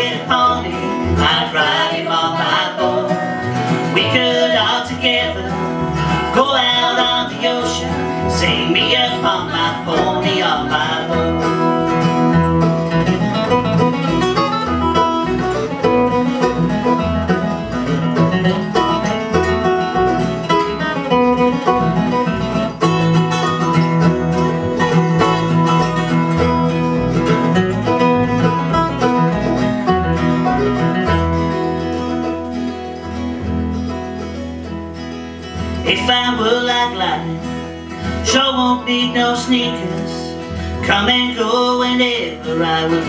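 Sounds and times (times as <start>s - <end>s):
acoustic guitars picking: 0.0s - 43.0s
mandolin picking: 0.0s - 43.0s
upright bass line: 0.0s - 43.0s.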